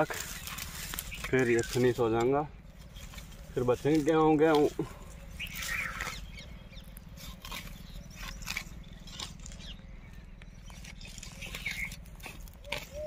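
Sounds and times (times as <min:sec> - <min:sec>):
steady low rumble: 0:00.0 - 0:12.7
dry plants crackling and snapping: 0:00.0 - 0:13.0.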